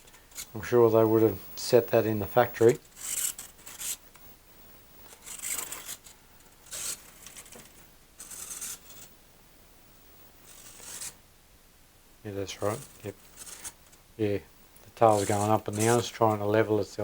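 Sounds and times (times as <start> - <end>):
hissy scratching sounds: 0.0 - 9.2, 9.9 - 11.2, 12.3 - 17.0.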